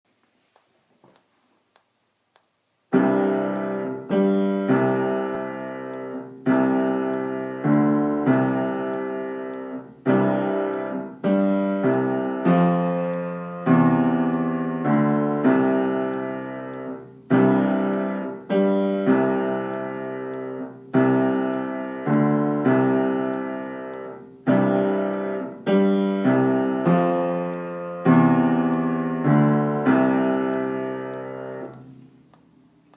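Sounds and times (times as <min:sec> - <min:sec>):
piano chords ringing: 0:02.9 - 0:32.3.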